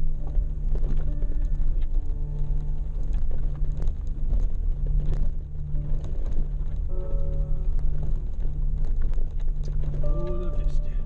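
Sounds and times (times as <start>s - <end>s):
calm background music: 0.0s - 11.0s
engine and road rumble: 0.0s - 11.0s.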